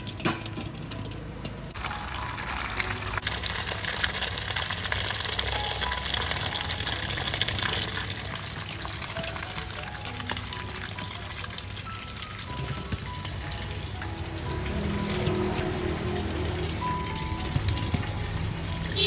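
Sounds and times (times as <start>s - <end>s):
water running in a steady gush: 1.7s - 19.0s.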